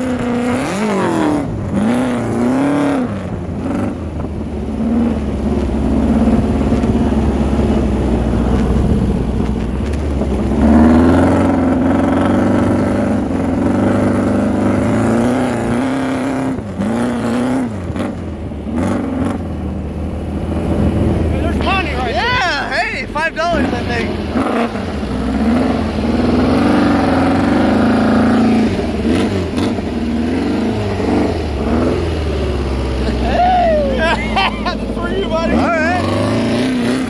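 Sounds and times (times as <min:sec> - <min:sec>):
dune buggy engine revving: 0:00.0 - 0:37.0.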